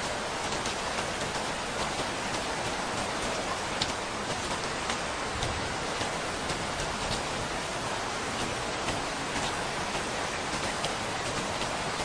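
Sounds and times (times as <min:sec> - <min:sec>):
raindrop taps: 0:00.0 - 0:07.5, 0:08.4 - 0:12.0
steady rain hiss: 0:00.0 - 0:12.0.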